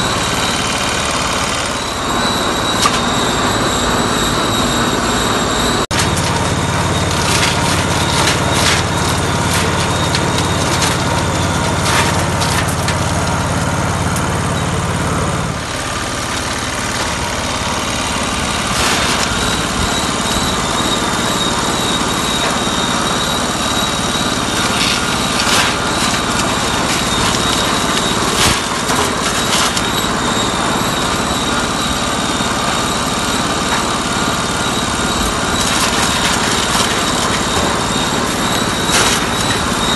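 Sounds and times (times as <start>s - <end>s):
low engine drone: 0.0s - 39.9s
threshing machine knocking: 0.0s - 39.9s.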